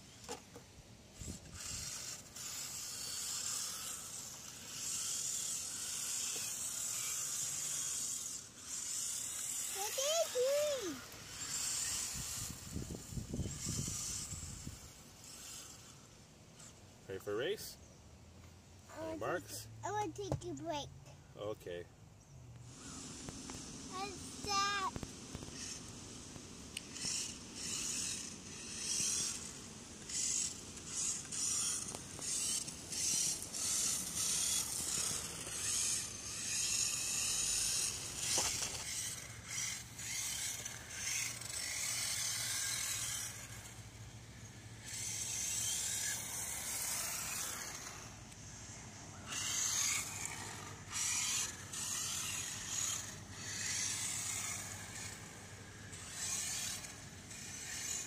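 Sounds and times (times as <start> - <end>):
electric motor whining: 1.2 - 16.8, 22.6 - 58.0.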